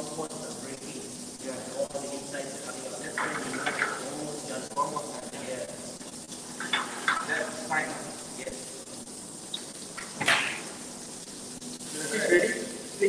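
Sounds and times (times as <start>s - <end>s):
fish sizzling in a pan: 0.0s - 13.0s
hot fat hissing: 0.0s - 13.0s.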